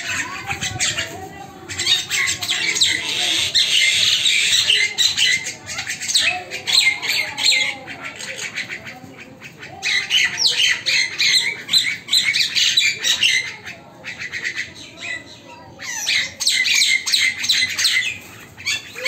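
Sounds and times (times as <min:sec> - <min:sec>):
birds squawking and screeching: 0:00.0 - 0:19.0.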